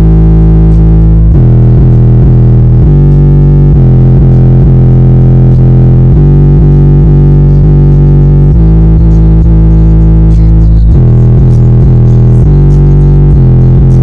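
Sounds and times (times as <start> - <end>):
loud bass-heavy car music: 0.0 - 14.0.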